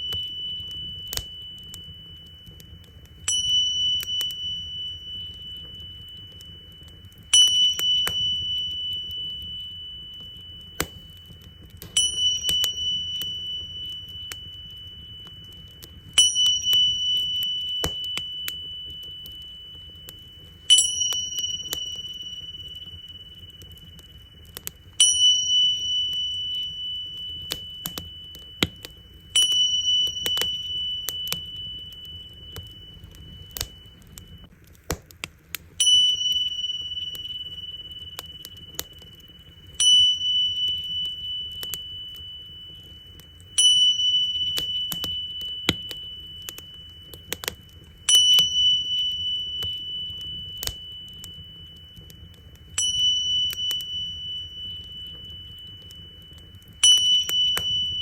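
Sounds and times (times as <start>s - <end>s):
small cymbals ringing: 0.0s - 34.6s, 35.7s - 58.0s
wood fire crackling: 0.0s - 58.0s.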